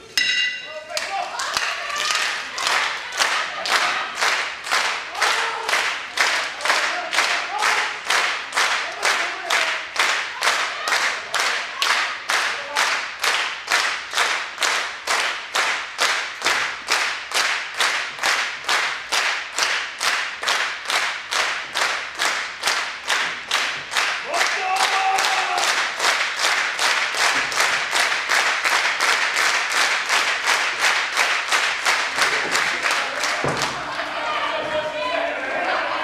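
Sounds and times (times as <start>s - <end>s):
audience clapping in unison: 0.9s - 34.6s.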